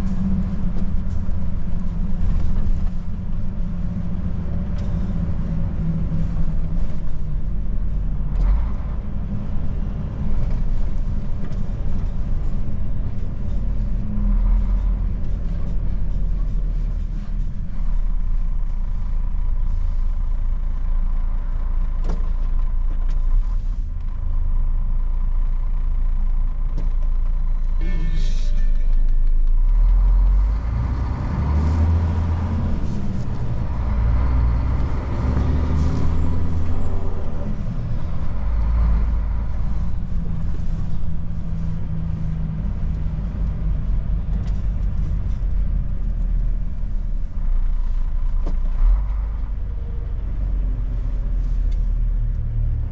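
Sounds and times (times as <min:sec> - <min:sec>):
diesel truck engine rumbling: 0:00.0 - 0:52.9.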